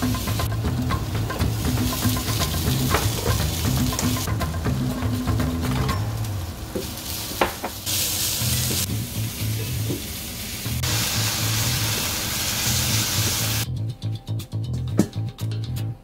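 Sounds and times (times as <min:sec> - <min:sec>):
vegetables sizzling in a frying pan: 0:00.0 - 0:13.6.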